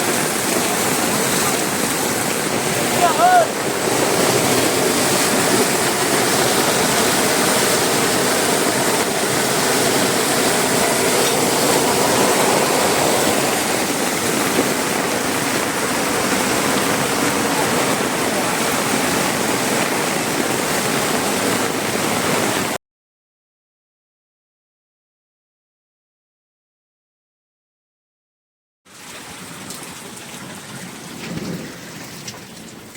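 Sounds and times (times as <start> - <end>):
floodwater rushing: 0.0 - 22.8, 28.9 - 32.9.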